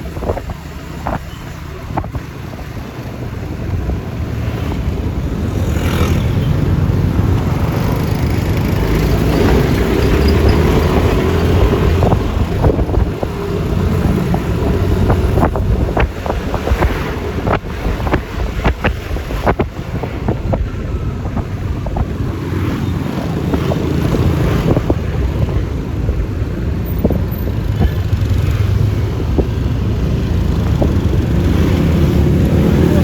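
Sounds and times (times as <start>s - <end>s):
wind buffeting microphone: 0.0s - 5.6s, 6.5s - 33.0s
scooter road and engine noise: 0.0s - 33.0s.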